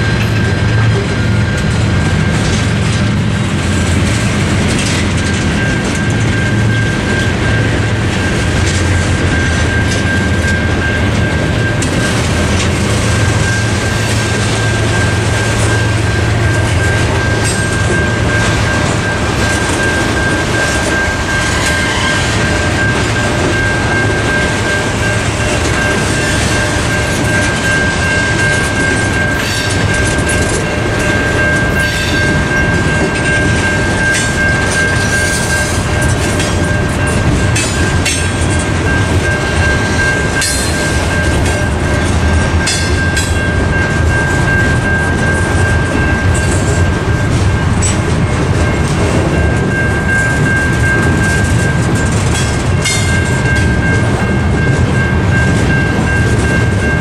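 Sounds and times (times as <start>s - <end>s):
crossing bell ringing: 0.0s - 57.0s
train rumble: 0.0s - 57.0s
wheels clattering on rail joints: 0.0s - 57.0s.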